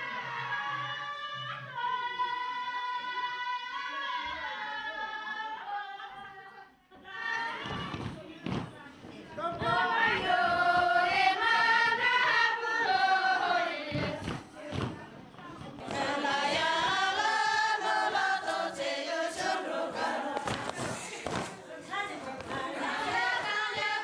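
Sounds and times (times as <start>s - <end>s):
women singing together: 0.0s - 24.0s.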